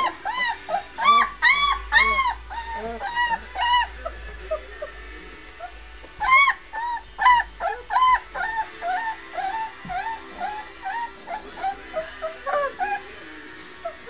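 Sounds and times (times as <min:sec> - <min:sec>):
puppy whining: 0:00.0 - 0:14.0.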